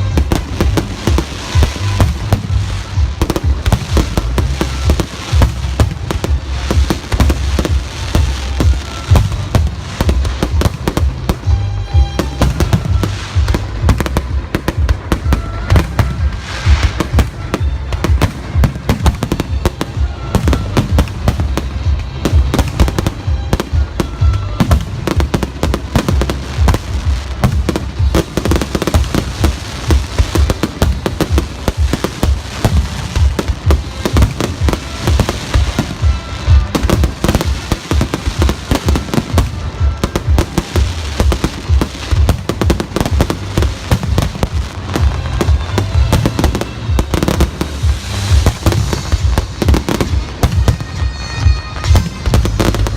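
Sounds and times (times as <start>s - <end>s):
fireworks bursting: 0.0s - 52.9s
music with heavy bass beat: 0.0s - 52.9s.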